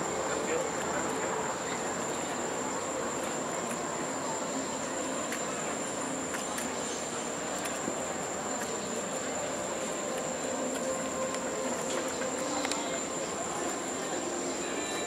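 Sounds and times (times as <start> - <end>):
outdoor background noise: 0.0 - 15.0
high-pitched insect trill: 0.1 - 15.0.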